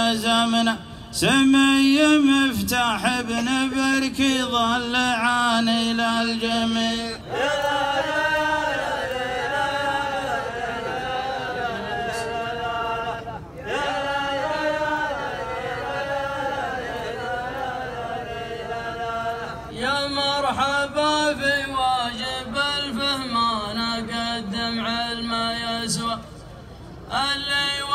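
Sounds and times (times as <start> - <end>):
men chanting together: 0.0 - 26.1.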